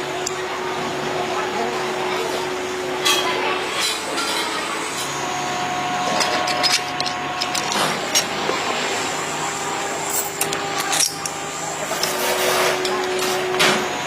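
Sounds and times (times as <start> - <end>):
machinery humming with whine: 0.0 - 14.0.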